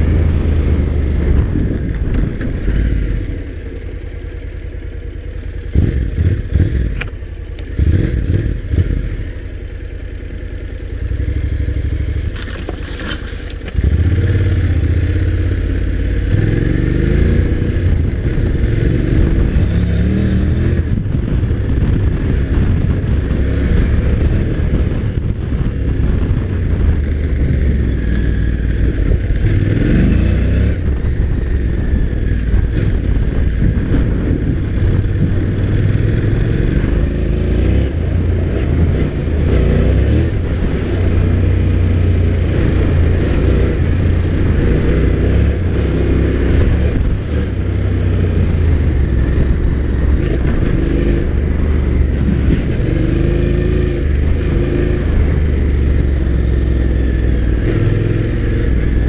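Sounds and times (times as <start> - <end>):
heavy wind noise: 0.0 - 3.7, 12.4 - 59.0
motorcycle engine running hard: 0.0 - 59.0.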